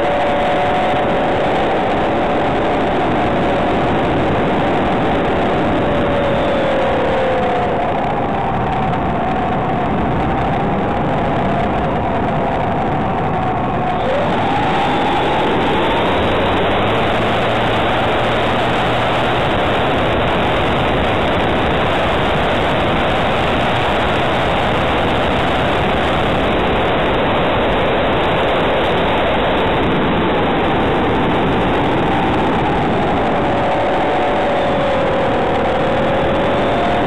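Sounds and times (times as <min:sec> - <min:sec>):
model aeroplane motor whine: 0:00.0 - 0:37.0
rush of air: 0:00.0 - 0:37.0.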